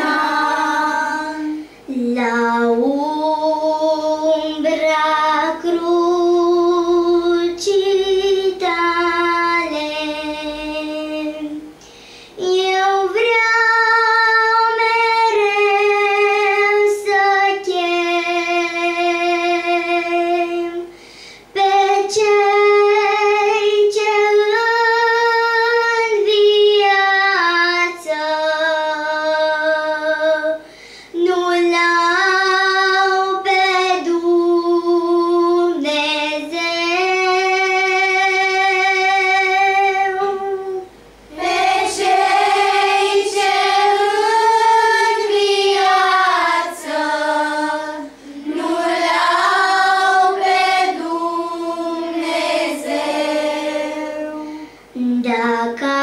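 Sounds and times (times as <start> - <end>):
girl singing a hymn unaccompanied: 0.0 - 56.0.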